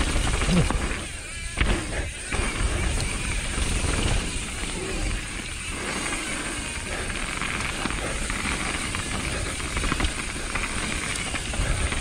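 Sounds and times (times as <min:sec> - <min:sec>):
bike rattling: 0:00.0 - 0:12.0
tyres rolling on dirt: 0:00.0 - 0:12.0.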